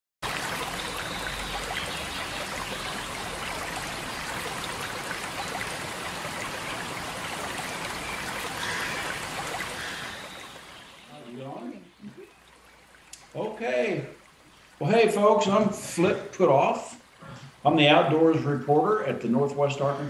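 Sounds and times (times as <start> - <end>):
stream water flowing: 0.2 - 20.0.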